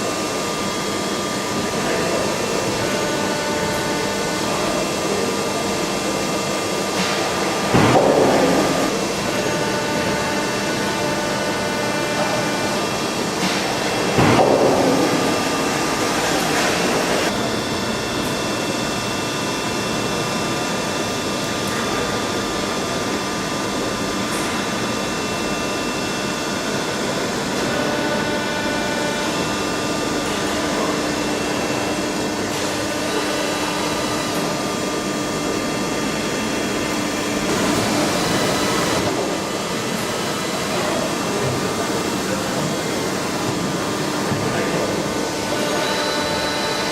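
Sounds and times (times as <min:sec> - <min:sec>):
milling machine running: 0:00.0 - 0:46.9
steady high machine tones: 0:00.0 - 0:46.9.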